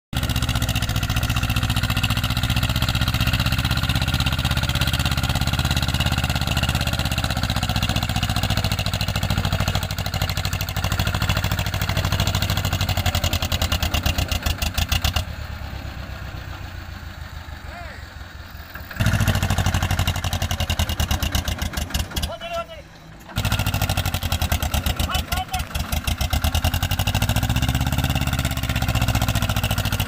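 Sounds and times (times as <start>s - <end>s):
tractor diesel engine under load: 0.1s - 30.0s.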